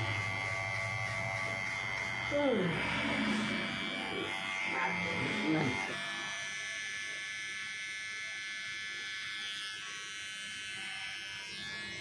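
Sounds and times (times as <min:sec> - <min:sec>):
electric hair trimmer buzzing: 0:00.0 - 0:12.0.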